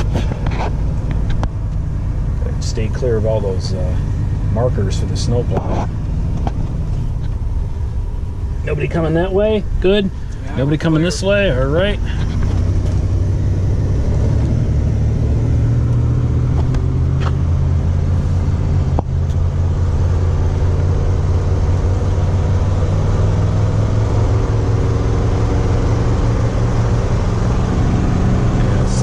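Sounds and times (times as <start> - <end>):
engine humming under load: 0.0 - 29.0
tire and road noise: 0.0 - 29.0.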